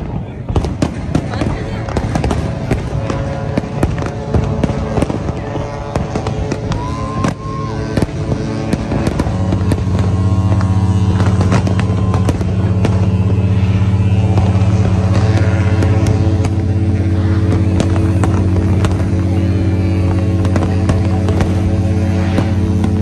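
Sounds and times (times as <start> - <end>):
firework whistling: 0.0 - 23.0
fireworks cracking and popping: 0.0 - 23.0
loud low drone: 0.0 - 23.0.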